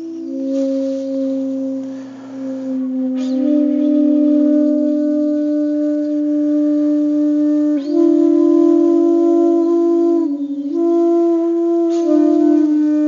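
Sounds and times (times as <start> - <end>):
music of long held notes: 0.0 - 13.0.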